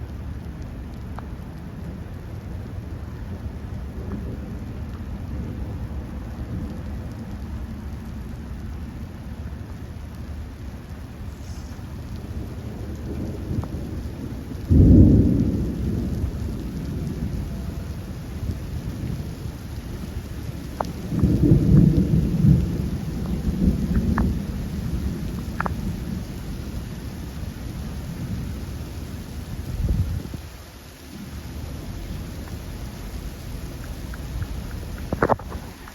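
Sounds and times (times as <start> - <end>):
rain falling: 0.0 - 35.9
thunder rumbling: 0.0 - 35.9.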